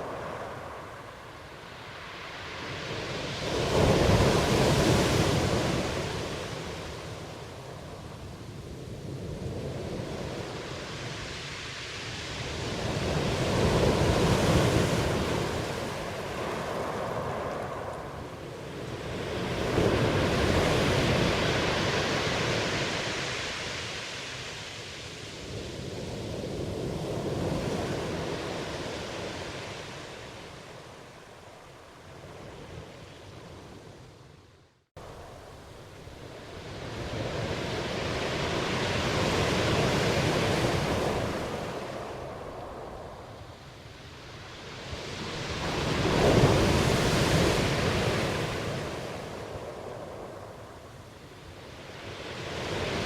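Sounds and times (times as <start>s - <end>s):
ocean waves washing ashore: 0.0s - 53.0s.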